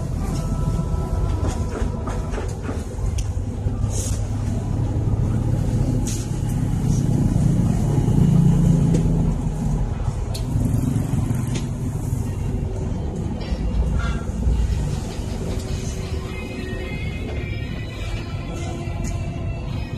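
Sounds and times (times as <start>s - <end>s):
bus engine drone: 0.0s - 19.9s
road noise: 0.0s - 19.9s.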